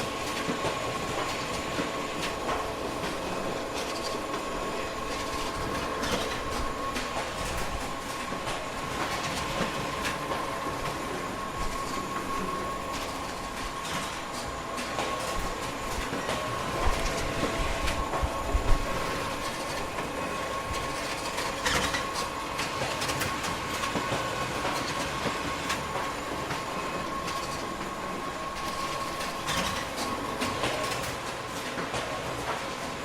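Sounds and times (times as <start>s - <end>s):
photocopier motor hum and whine: 0.0s - 33.0s.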